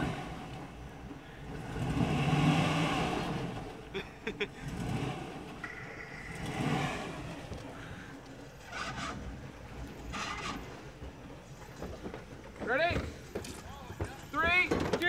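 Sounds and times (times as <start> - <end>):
pickup truck engine revving: 0.0 - 14.0.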